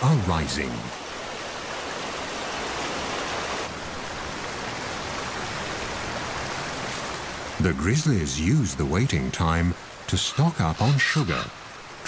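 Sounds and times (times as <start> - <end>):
swollen river rushing: 0.0 - 12.0.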